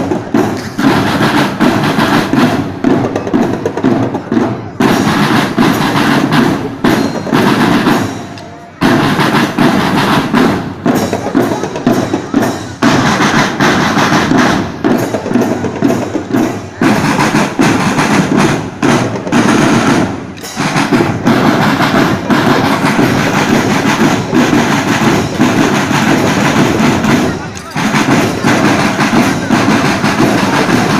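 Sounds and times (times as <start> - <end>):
drum band playing fast rhythm: 0.0 - 30.9.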